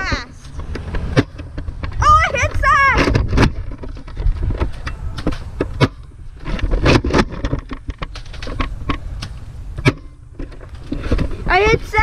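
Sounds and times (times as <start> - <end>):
wind and handling rumble: 0.0 - 12.0.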